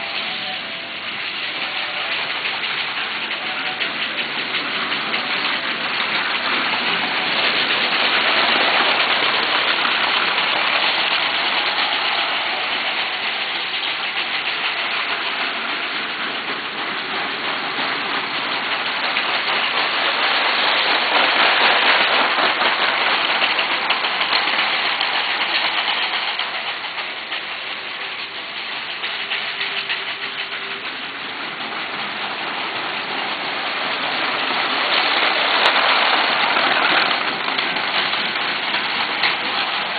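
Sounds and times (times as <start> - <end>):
model trains whirring and rattling: 0.0 - 39.9.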